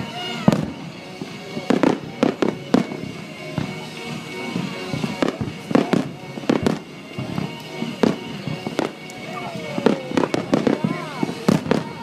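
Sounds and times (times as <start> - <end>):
fireworks bursting: 0.0 - 12.0
radio music: 0.0 - 12.0.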